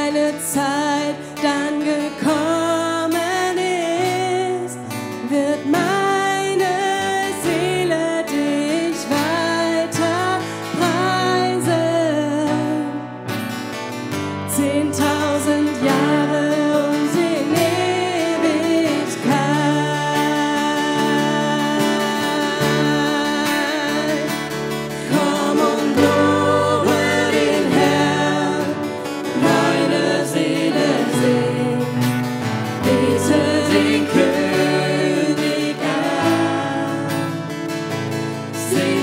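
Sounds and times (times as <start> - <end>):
woman singing into microphone: 0.0 - 13.1, 14.5 - 32.2, 32.8 - 37.5
guitar accompaniment: 0.0 - 39.0.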